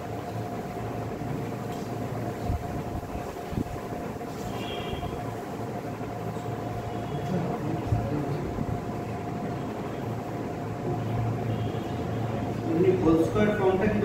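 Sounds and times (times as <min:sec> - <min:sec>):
droning machine hum: 0:00.0 - 0:14.0
thin constant tone: 0:00.0 - 0:14.0.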